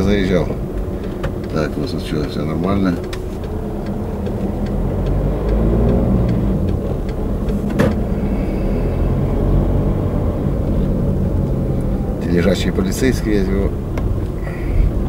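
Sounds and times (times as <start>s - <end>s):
diesel engine drone: 0.0s - 15.0s.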